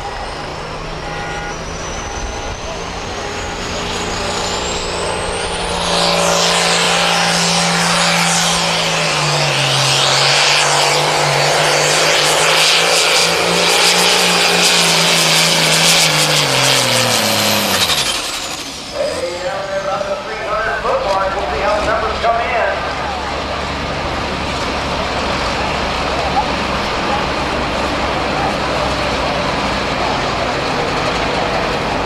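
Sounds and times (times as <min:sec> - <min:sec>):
high turbo whine: 0:00.0 - 0:32.0
tractor diesel engine: 0:00.0 - 0:32.0.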